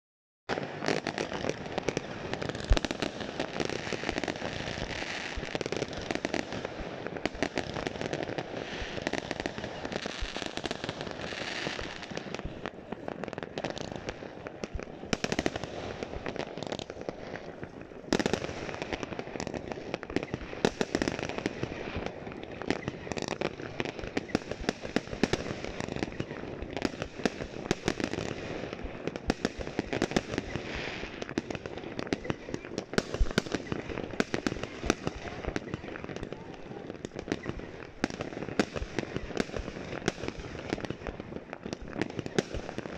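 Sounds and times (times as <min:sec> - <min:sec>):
fireworks bangs: 0:00.5 - 0:42.9
fireworks popping and crackling: 0:00.5 - 0:42.9.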